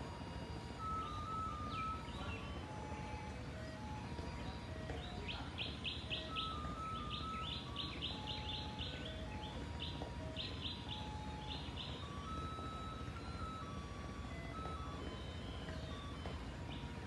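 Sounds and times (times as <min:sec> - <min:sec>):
faint tune of held notes: 0:00.0 - 0:17.0
bird chirping: 0:00.4 - 0:17.0.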